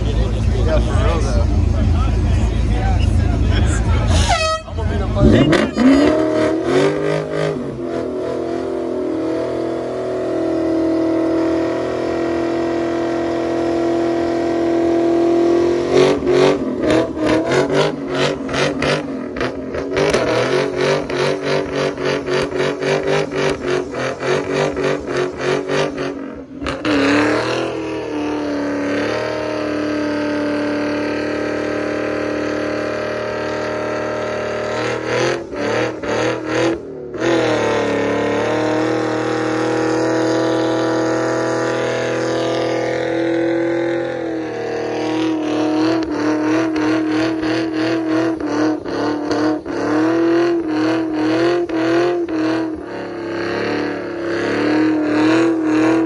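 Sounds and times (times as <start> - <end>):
car engine revving high: 0.0 - 56.0
tires spinning on pavement: 0.0 - 56.0.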